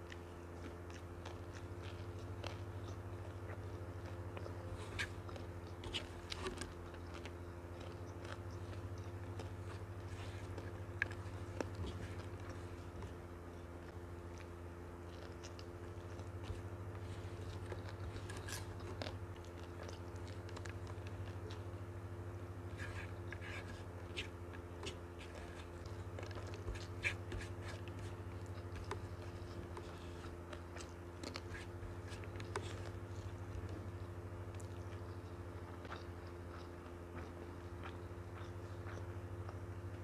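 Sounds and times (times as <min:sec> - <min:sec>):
mouth chewing: 0:00.0 - 0:40.0
steady low hum: 0:00.0 - 0:40.0.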